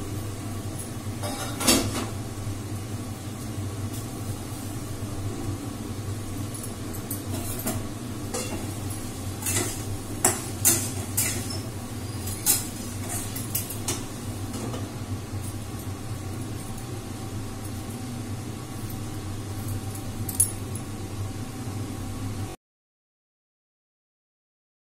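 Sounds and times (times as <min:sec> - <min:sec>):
steady low hum: 0:00.0 - 0:22.6.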